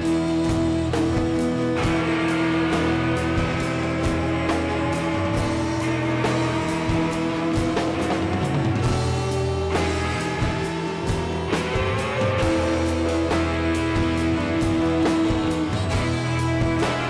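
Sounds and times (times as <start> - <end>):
drum kit with cymbal hits: 0.0 - 17.0
electric guitar: 0.0 - 17.0
strummed acoustic guitars: 0.0 - 17.0.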